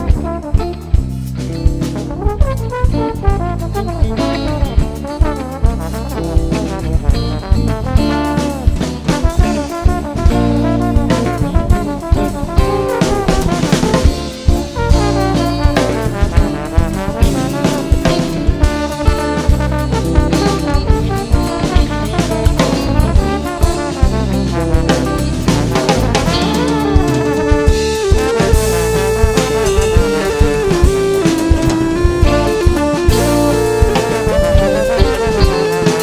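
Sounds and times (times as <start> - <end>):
live band music: 0.0 - 36.0
sharp drum hits: 0.0 - 36.0
trombone melody: 0.0 - 36.0.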